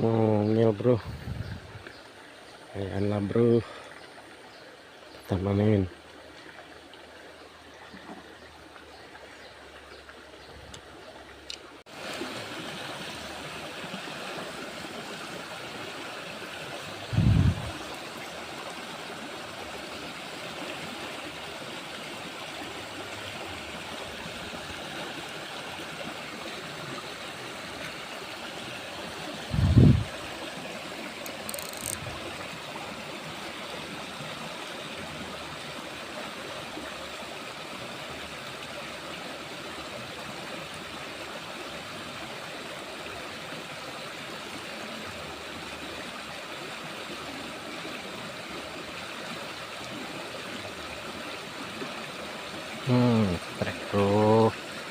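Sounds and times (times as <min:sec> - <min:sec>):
stream water flowing: 0:00.0 - 0:54.9.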